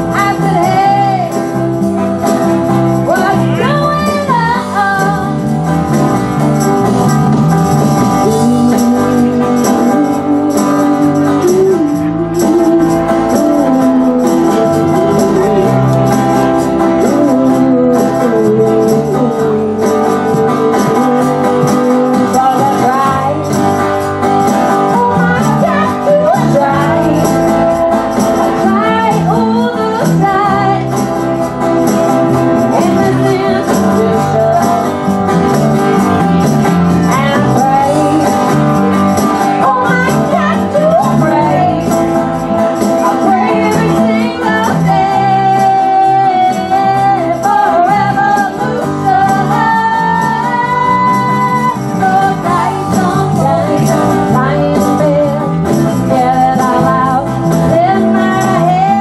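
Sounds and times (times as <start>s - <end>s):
person singing: 0.0s - 1.8s, 3.0s - 5.6s, 8.0s - 59.0s
acoustic guitar: 0.0s - 59.0s
drums: 0.0s - 59.0s
electric bass: 0.0s - 59.0s
tambourine shaken: 0.0s - 59.0s.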